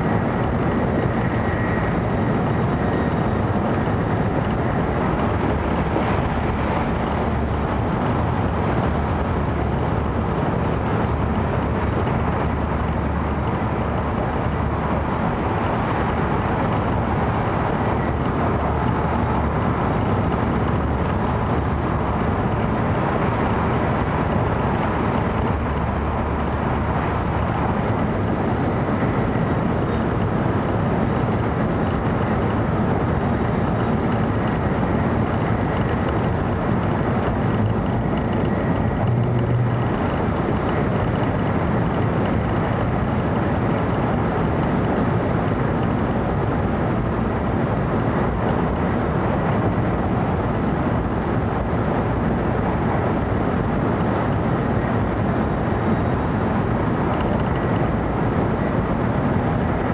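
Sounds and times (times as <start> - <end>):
train running noise inside cabin: 0.0 - 59.9.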